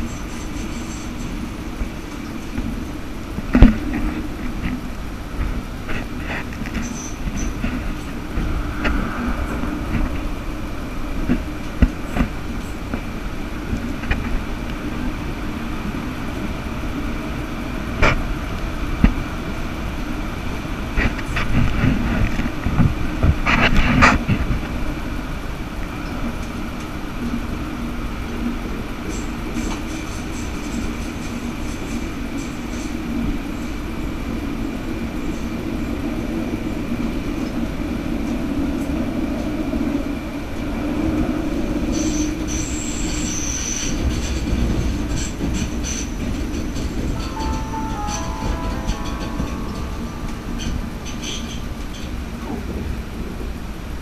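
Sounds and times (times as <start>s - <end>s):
tram rolling rumble and hum: 0.0s - 54.0s.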